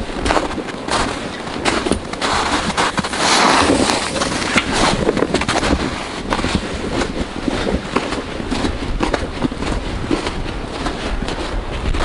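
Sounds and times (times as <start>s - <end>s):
footsteps crunching through snow: 0.0s - 12.0s.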